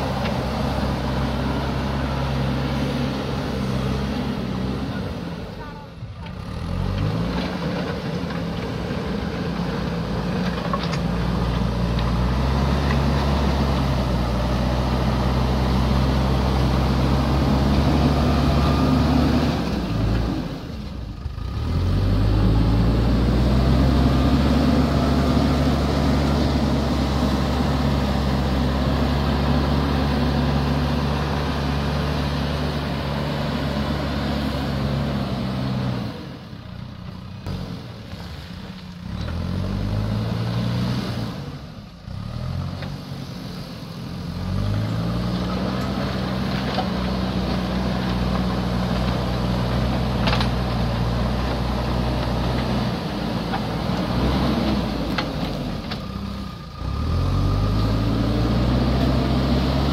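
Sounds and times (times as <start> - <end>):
diesel engine revving under load: 0.0 - 59.9.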